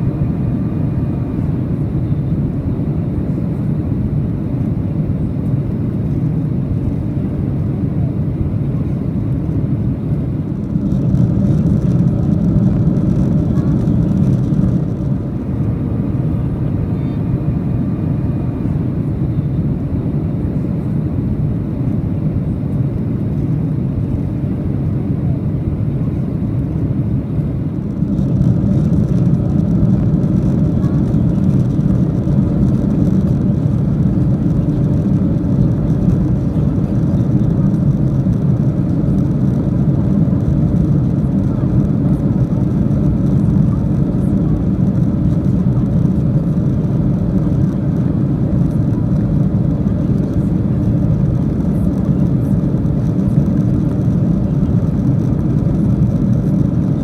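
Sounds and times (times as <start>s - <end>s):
airplane cabin engine rush: 0.0s - 57.0s.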